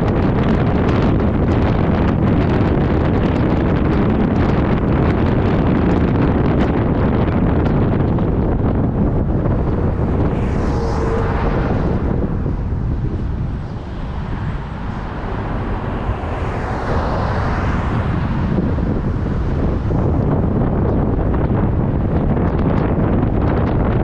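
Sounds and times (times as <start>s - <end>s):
road and traffic noise: 0.0s - 24.0s
wind buffeting microphone: 0.0s - 24.0s.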